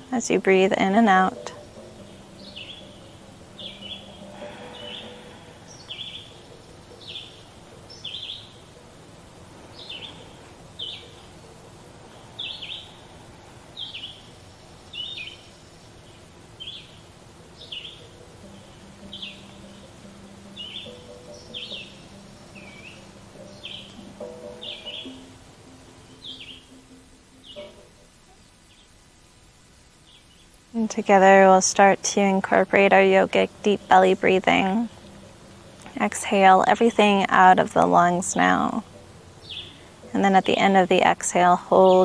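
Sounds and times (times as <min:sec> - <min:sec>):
bird chirping: 0:00.0 - 0:29.2, 0:30.0 - 0:42.0
faint low hum: 0:00.0 - 0:42.0.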